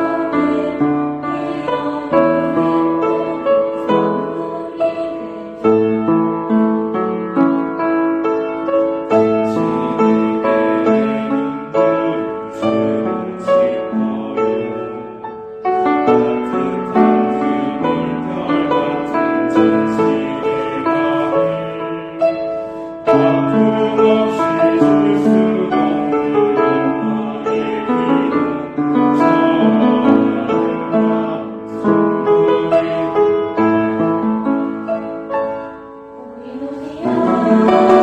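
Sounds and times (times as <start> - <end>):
piano music: 0.0 - 38.0.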